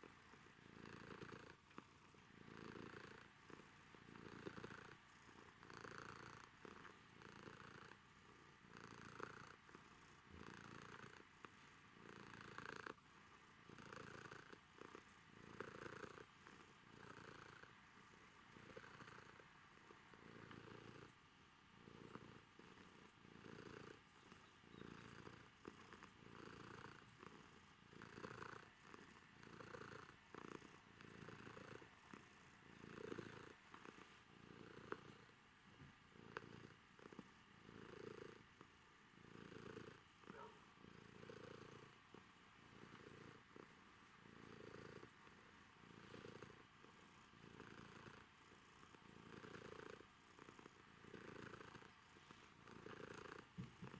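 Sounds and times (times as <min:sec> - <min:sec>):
cat purring: 0:00.0 - 0:53.9.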